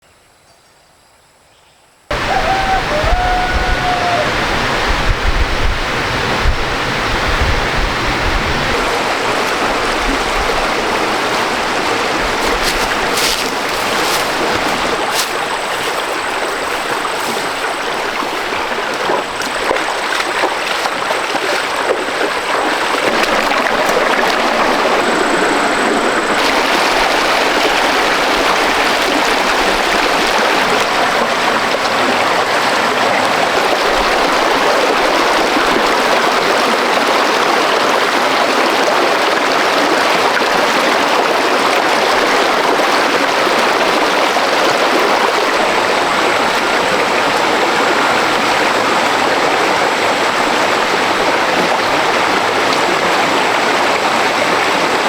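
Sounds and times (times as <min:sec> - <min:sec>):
stream rushing over rocks: 0:02.1 - 0:55.0.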